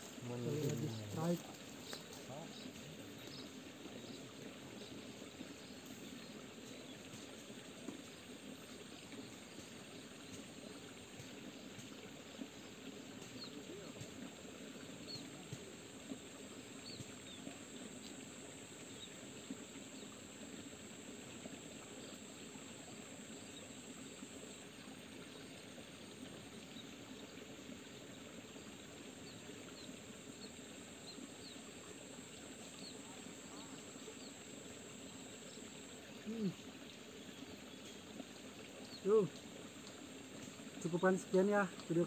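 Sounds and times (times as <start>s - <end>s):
stream trickling: 0.0s - 42.0s.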